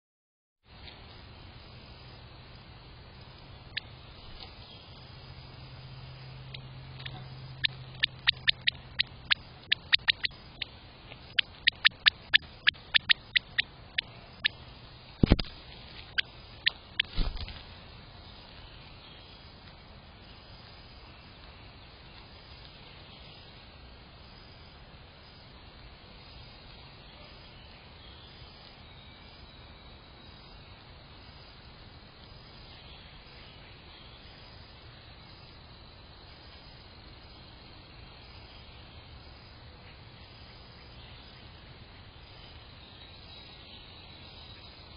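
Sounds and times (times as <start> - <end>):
faint outdoor background hiss: 0.6 - 44.9.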